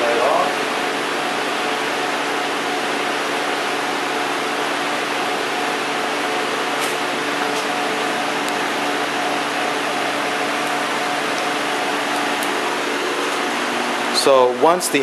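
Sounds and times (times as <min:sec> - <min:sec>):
car engine idling: 0:01.9 - 0:15.0.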